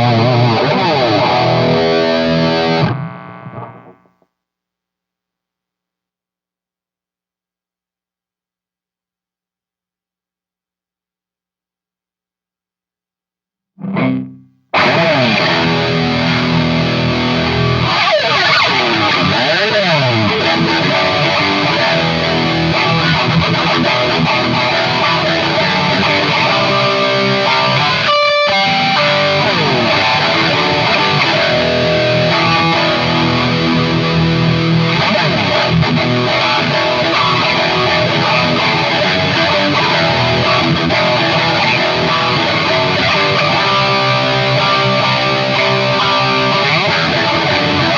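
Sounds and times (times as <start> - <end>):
distorted electric guitar: 0.0 - 4.4, 13.8 - 47.9.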